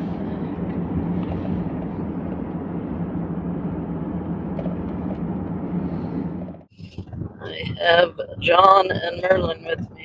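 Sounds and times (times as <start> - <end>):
car road and engine noise: 0.0 - 10.0
low hum: 0.0 - 10.0.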